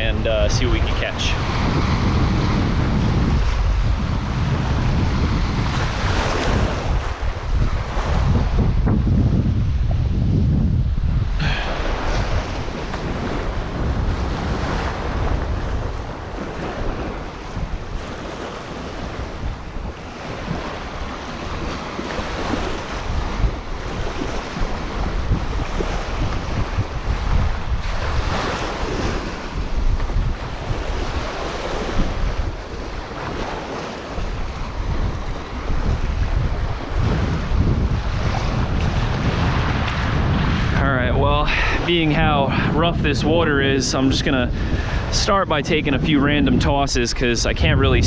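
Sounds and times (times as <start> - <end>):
strong wind buffeting microphone: 0.0 - 48.0
surf washing onto shore: 0.0 - 48.0.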